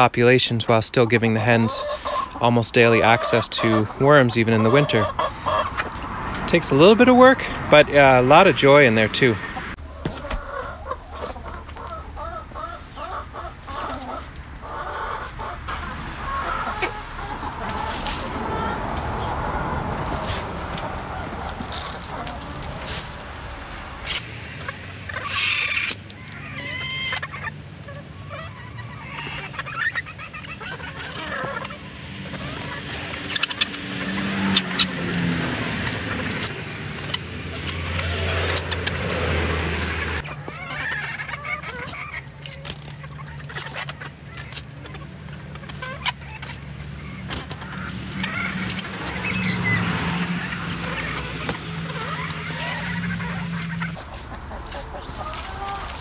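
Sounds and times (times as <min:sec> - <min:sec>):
hens clucking: 0:00.0 - 0:56.0
hens scratching in compost: 0:00.0 - 0:56.0.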